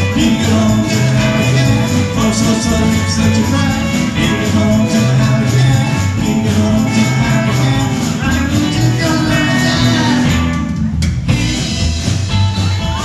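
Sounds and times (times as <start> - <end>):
rockabilly band playing: 0.0 - 13.0.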